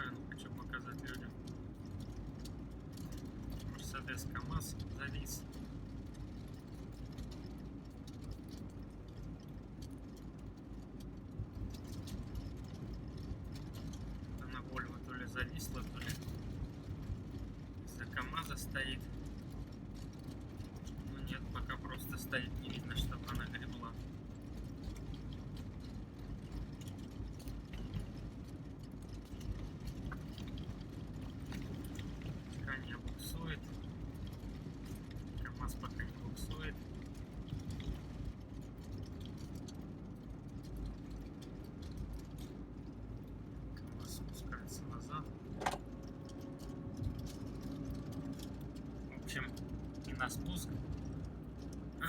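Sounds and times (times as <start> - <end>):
car engine rumble inside cabin: 0.0 - 52.0.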